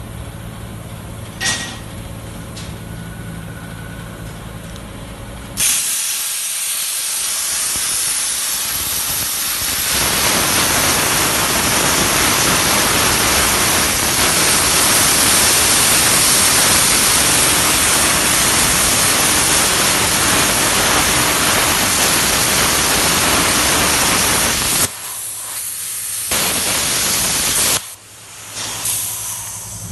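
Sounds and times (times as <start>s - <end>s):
machine hum: 0.0s - 5.6s, 8.8s - 25.4s, 26.2s - 29.9s
plasma torch hissing: 5.6s - 29.9s.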